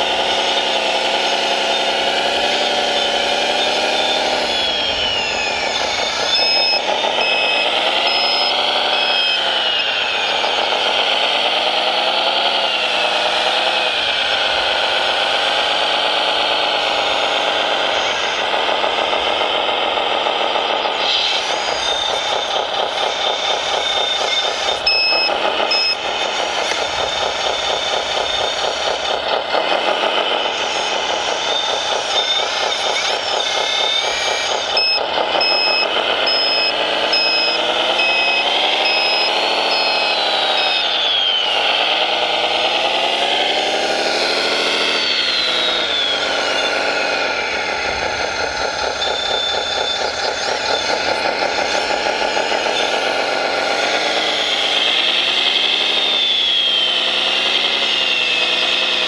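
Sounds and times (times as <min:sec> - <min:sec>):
toy vehicle engine running: 0:00.0 - 0:59.0
reversing beeper beeps: 0:00.2 - 0:29.2, 0:30.3 - 0:59.0.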